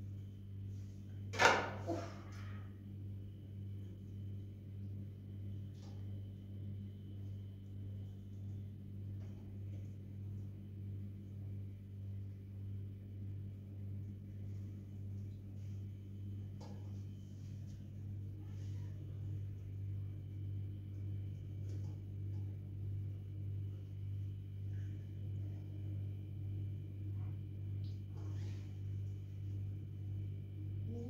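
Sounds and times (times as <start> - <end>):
pulsing low hum: 2.2 - 31.0.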